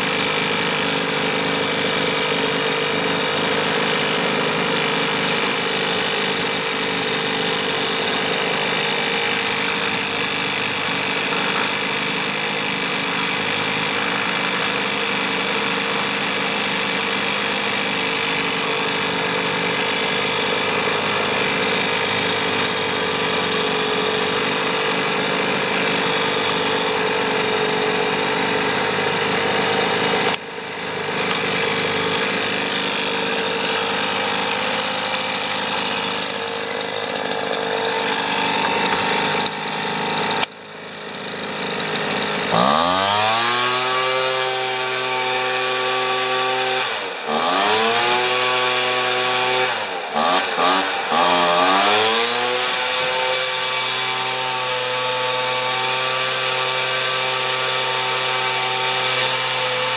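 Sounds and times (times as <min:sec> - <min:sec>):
leaf blower engine revving: 0:00.0 - 0:59.9.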